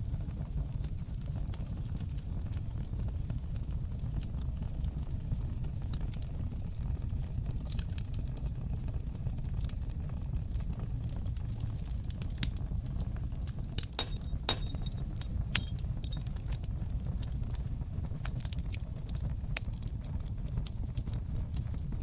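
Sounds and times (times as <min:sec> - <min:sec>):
fire rumbling in fireplace: 0:00.0 - 0:22.0
fire pops and snaps: 0:00.1 - 0:22.0.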